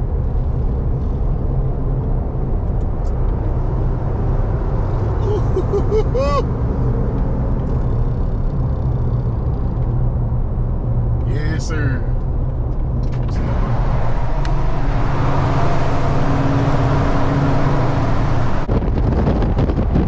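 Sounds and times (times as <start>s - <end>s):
road and engine rumble in cab: 0.0s - 20.0s.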